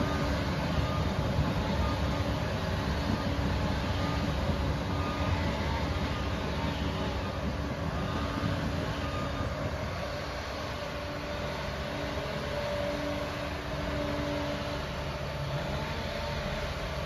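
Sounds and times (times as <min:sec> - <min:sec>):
faint steady whine: 0:00.0 - 0:17.0
heavy diesel engine running: 0:00.0 - 0:17.0
metallic clatter of steel tracks: 0:00.0 - 0:17.0.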